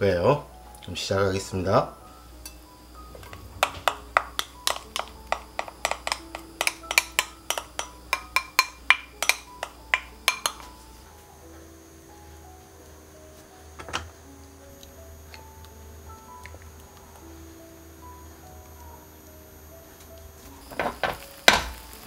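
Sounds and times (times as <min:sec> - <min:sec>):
faint sustained tones: 0:00.0 - 0:22.0.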